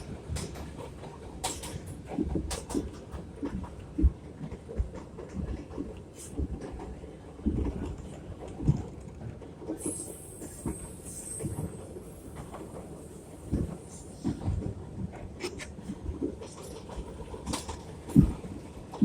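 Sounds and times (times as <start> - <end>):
subway train on rails: 0.0 - 19.0.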